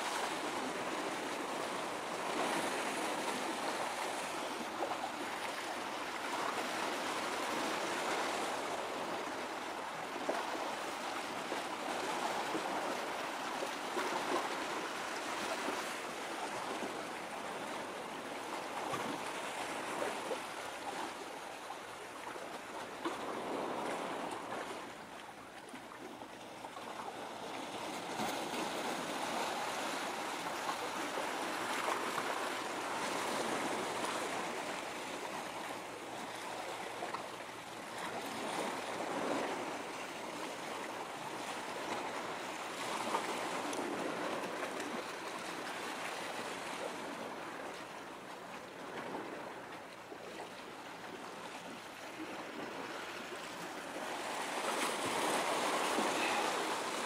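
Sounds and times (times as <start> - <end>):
small waves lapping: 0.0 - 57.0.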